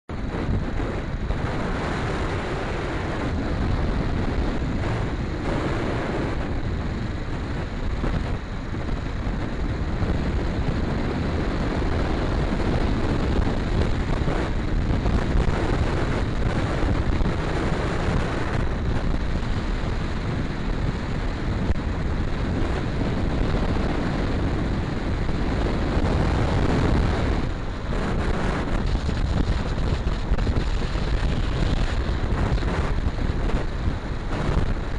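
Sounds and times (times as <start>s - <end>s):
wind buffeting microphone: 0.1s - 34.9s.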